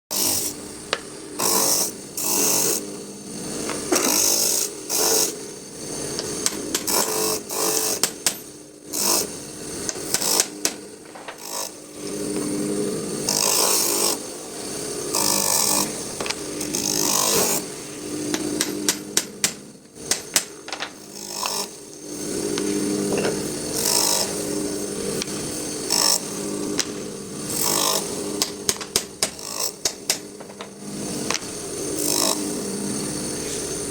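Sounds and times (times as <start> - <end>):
rasping sanding hiss: 0.1 - 20.5, 21.1 - 33.9
grinder motor humming: 0.1 - 33.9.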